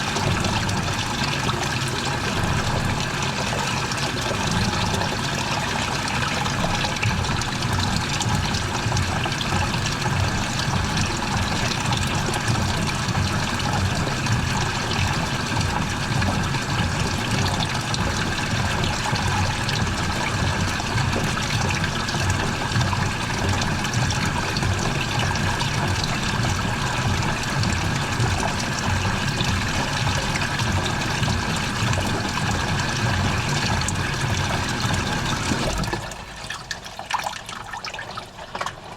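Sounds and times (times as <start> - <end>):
water pouring into washing machine: 0.0 - 38.9.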